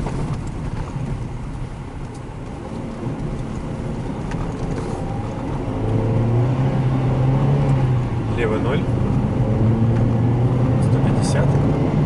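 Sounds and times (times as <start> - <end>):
car engine from inside cabin: 0.0 - 12.0
tyres rumbling on snow: 0.0 - 12.0.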